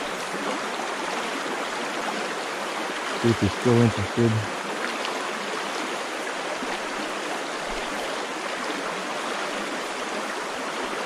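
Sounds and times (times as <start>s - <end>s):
creek water rushing over riffles: 0.0s - 11.0s.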